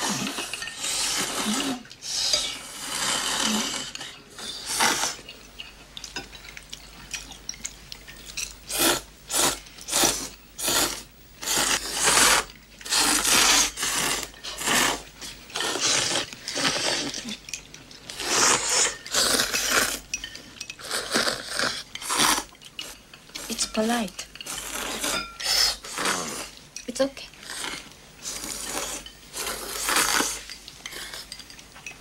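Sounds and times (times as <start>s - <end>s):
people slurping food: 0.0s - 7.4s, 8.0s - 26.6s, 27.2s - 31.5s
chopsticks and dishes clinking: 0.0s - 10.1s, 11.5s - 32.0s.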